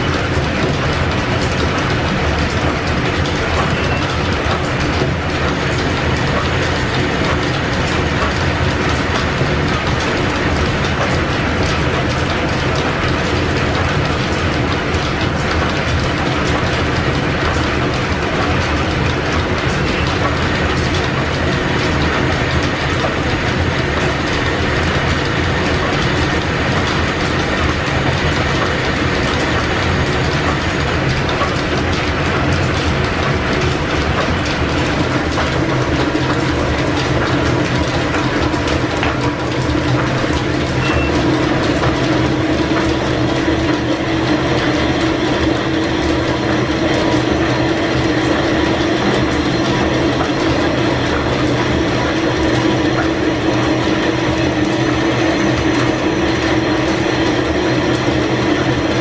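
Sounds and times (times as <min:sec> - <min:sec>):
clatter of gears and belts: 0:00.0 - 0:59.0
low machine hum: 0:00.0 - 0:59.0
metal lathe turning: 0:00.1 - 0:59.0.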